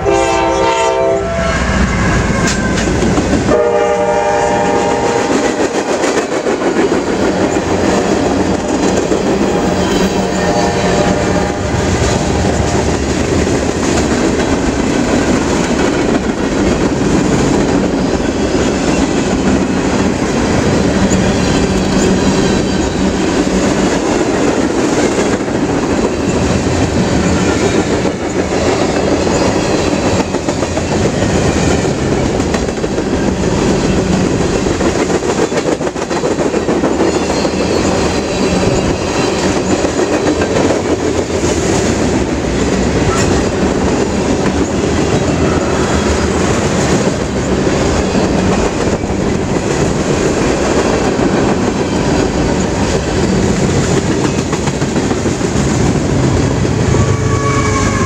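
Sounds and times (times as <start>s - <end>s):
freight train wheels clattering: 2.4s - 3.9s, 4.5s - 58.0s.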